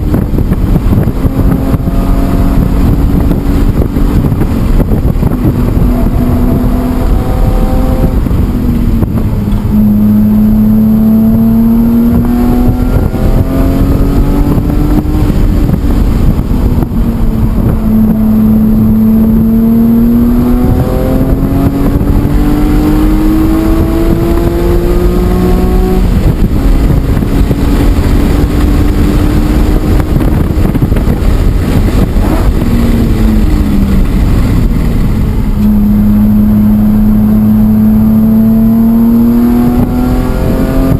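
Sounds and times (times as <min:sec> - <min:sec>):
car engine at full throttle: 0:00.0 - 0:40.9
wind and road noise: 0:00.0 - 0:40.9.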